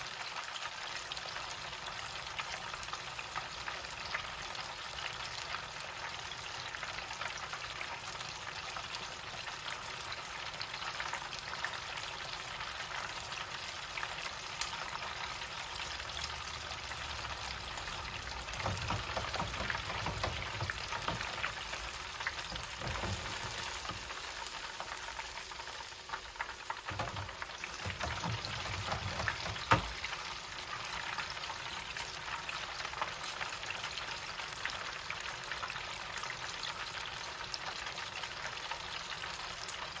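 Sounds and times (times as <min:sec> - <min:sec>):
chicken deep-frying in oil: 0:00.0 - 0:40.0.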